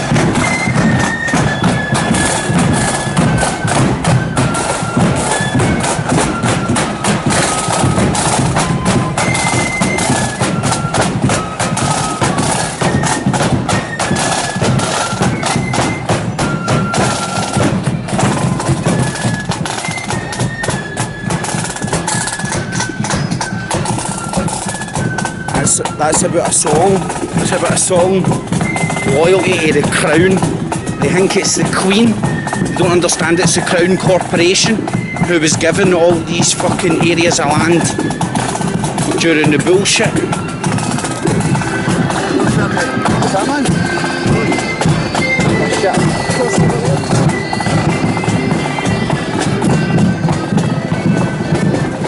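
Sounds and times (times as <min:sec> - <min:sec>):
fast continuous drumming: 0:00.0 - 0:52.0
marching band playing: 0:00.0 - 0:52.0.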